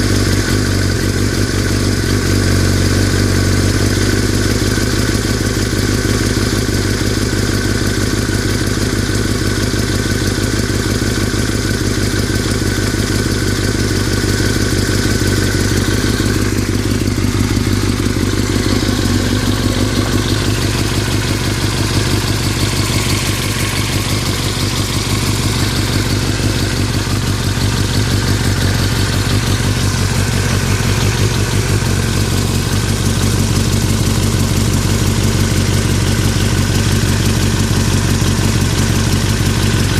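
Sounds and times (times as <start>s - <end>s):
motorcycle engine idling with rattle: 0.0s - 39.9s.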